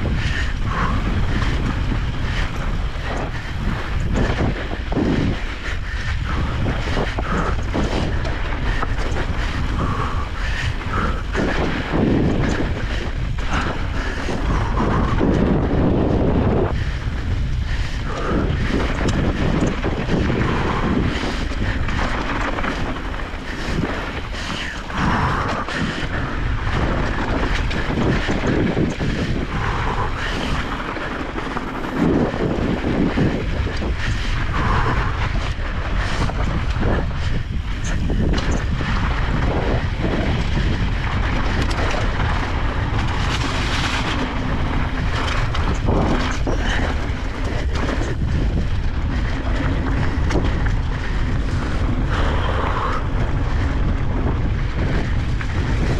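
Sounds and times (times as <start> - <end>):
bike knocks and rattles: 0.0 - 55.9
wind buffeting microphone: 0.0 - 55.9.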